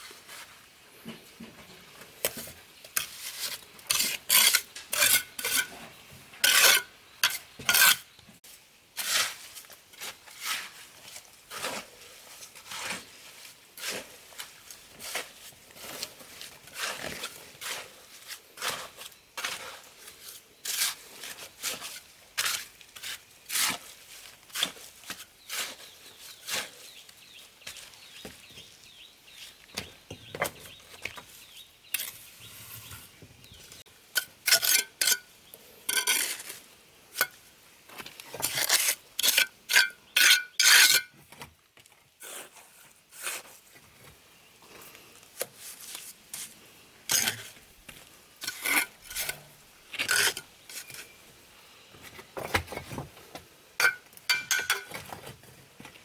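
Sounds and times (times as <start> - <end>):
hand tool scraping gritty surface: 2.2 - 8.1, 9.0 - 28.7, 31.5 - 41.2, 42.2 - 44.2, 45.4 - 51.2, 53.8 - 56.0.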